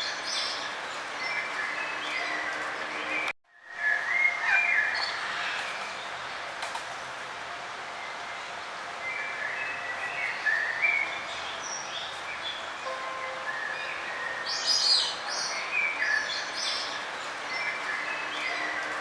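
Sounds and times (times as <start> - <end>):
songbirds chirping and trilling: 0.0 - 19.0
steady outdoor hiss: 0.0 - 19.0.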